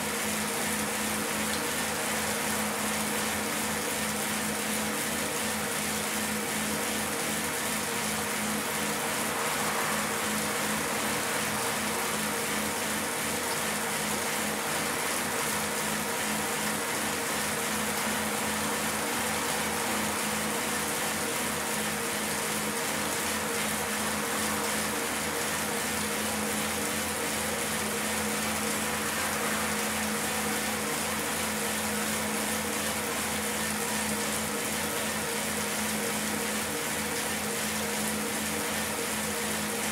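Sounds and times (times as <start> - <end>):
bicycle tyre whirring on roller: 0.0 - 39.9.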